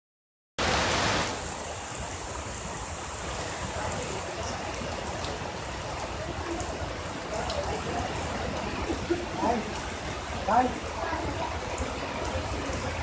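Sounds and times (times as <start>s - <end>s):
heavy rain hissing: 0.6s - 13.0s.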